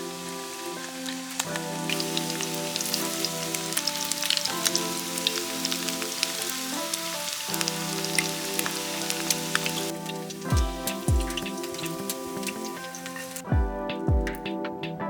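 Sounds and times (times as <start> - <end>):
food frying in oil: 0.0 - 13.5
background music: 0.0 - 15.0.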